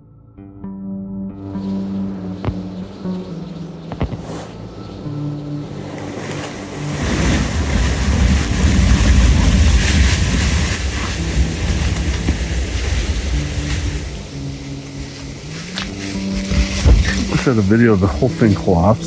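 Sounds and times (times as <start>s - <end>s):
heavy low rumble: 1.4s - 18.4s
wind gusting over microphone: 1.5s - 19.0s
rushing hiss: 1.6s - 18.7s.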